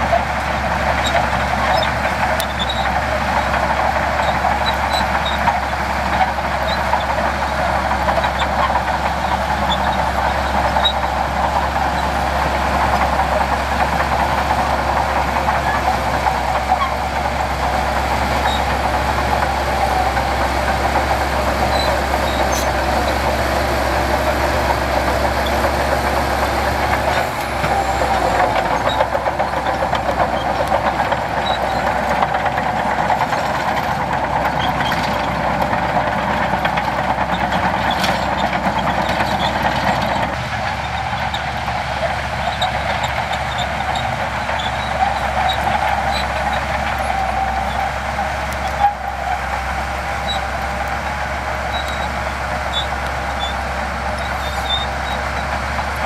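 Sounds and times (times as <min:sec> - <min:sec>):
heavy diesel machinery engine: 0:00.0 - 0:56.0.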